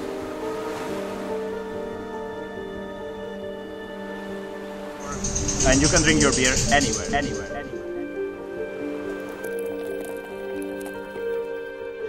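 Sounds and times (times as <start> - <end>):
sustained background music: 0.0 - 12.0.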